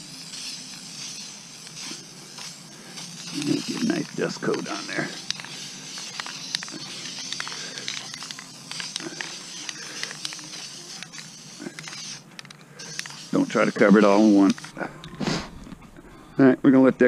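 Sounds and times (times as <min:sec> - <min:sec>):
aerosol can spraying hiss: 0:00.0 - 0:15.5.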